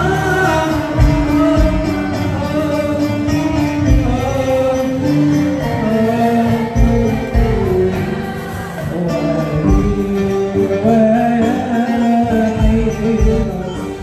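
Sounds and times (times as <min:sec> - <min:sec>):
choir singing in unison: 0:00.0 - 0:14.0
percussion beats: 0:00.0 - 0:14.0.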